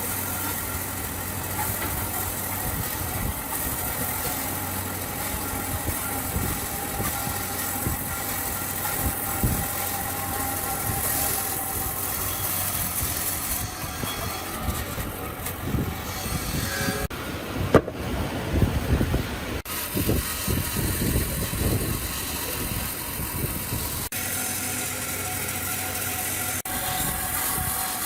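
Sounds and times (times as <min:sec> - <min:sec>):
motor running: 0:00.0 - 0:17.1, 0:19.7 - 0:28.0.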